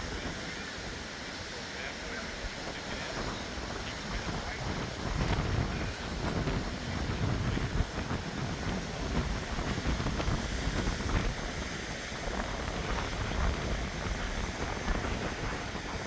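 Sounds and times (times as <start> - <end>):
surf breaking on beach: 0.0 - 16.0
wind buffeting microphone: 2.1 - 16.0.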